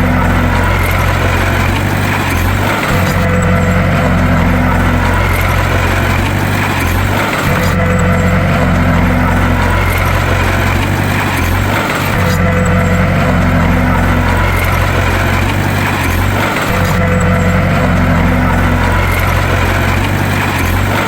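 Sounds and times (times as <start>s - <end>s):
bulldozer engine running: 0.0s - 21.0s.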